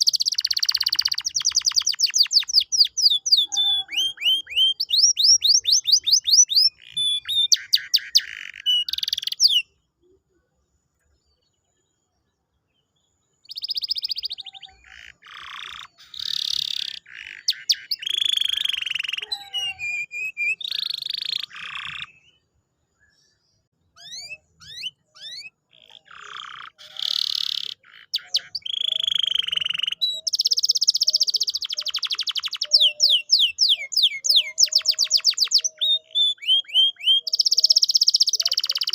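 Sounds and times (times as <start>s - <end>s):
canary singing: 0.0s - 9.8s, 13.4s - 22.5s, 23.9s - 38.9s.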